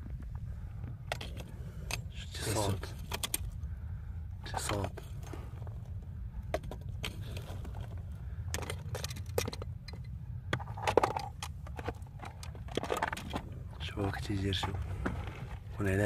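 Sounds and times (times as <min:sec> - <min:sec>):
gravel crunching: 0:00.0 - 0:16.0.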